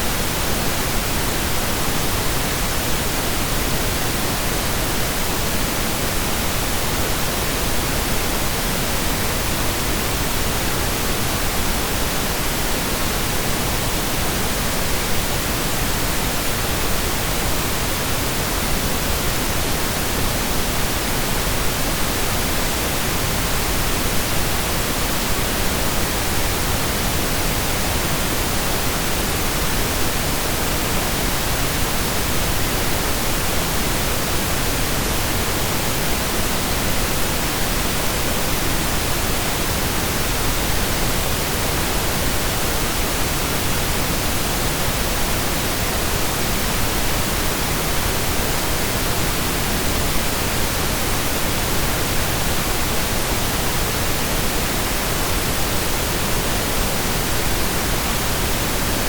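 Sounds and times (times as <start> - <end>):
synthesized pink noise hiss: 0.0 - 59.0.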